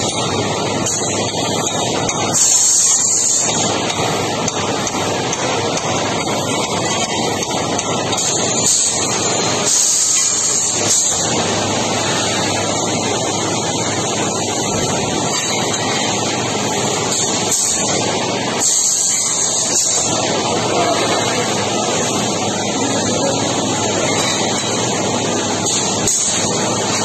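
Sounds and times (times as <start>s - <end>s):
factory machinery noise: 0.0s - 27.0s.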